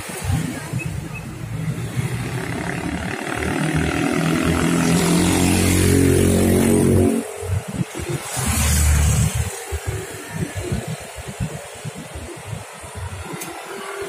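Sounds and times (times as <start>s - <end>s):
motorcycles passing: 0.0s - 14.0s.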